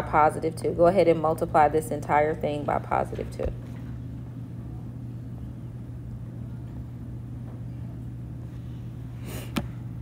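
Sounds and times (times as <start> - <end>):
low room tone hum: 0.0 - 10.0.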